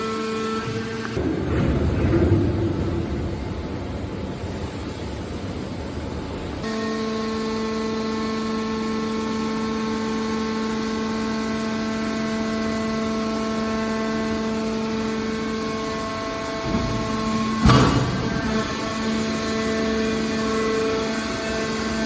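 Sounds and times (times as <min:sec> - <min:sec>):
hydraulic baler whining hum: 0:00.0 - 0:22.0.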